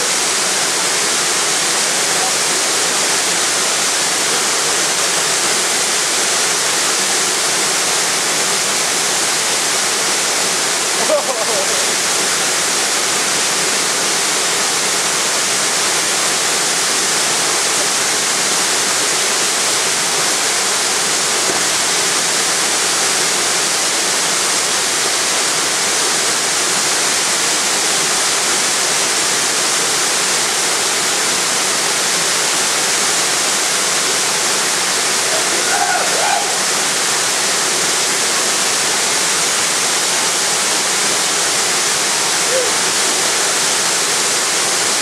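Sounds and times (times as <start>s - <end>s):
waterfall pouring into pool: 0.0s - 45.0s.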